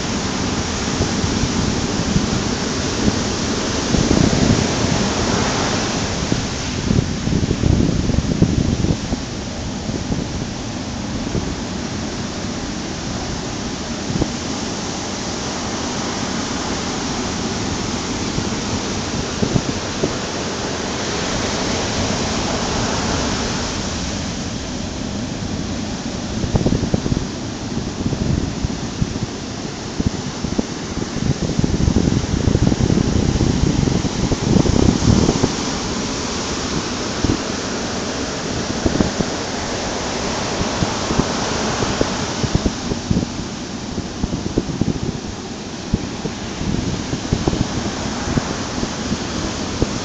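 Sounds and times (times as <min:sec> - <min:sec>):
ocean surf breaking: 0:00.0 - 0:50.0
wind on microphone: 0:00.0 - 0:50.0.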